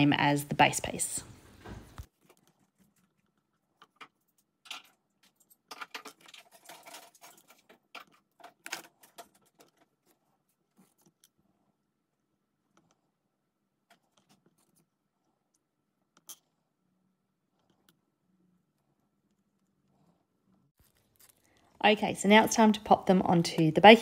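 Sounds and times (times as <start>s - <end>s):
clay pieces clicking and scraping: 2.0s - 21.8s.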